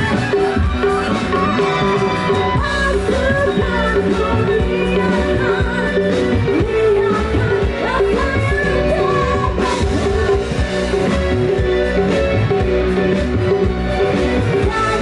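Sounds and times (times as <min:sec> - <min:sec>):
band playing: 0:00.0 - 0:15.0.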